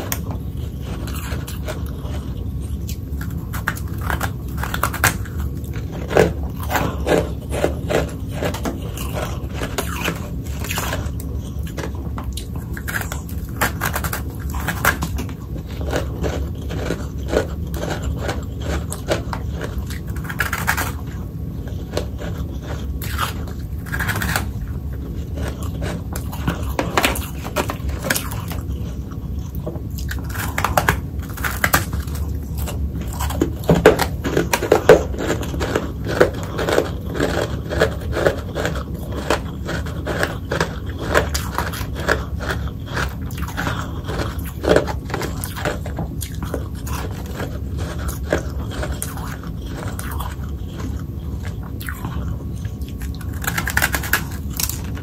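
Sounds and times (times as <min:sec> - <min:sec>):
chewing crunchy frost: 0:00.0 - 0:55.0.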